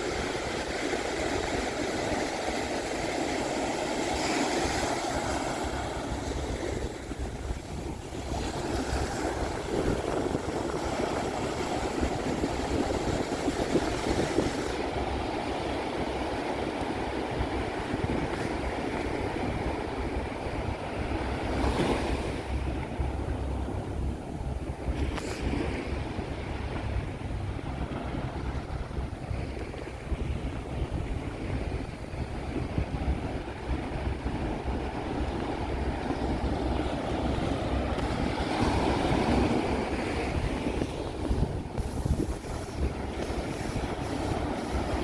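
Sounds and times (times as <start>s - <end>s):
surf breaking on a beach: 0.0s - 45.0s
wind buffeting microphone: 0.0s - 45.0s.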